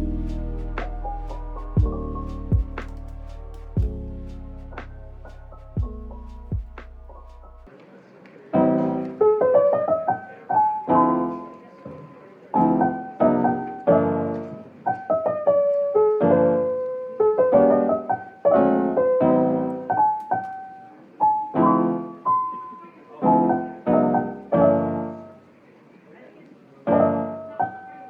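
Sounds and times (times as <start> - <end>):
slow piano music: 0.0 - 7.8, 8.6 - 25.5, 26.9 - 28.0.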